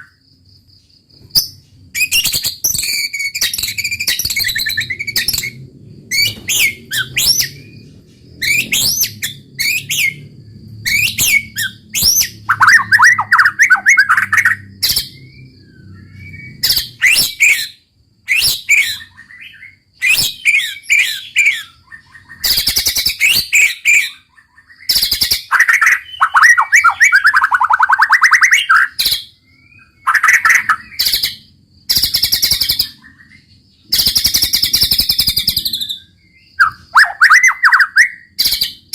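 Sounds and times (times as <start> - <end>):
bird whistling and trilling: 1.4 - 7.8, 8.4 - 38.9.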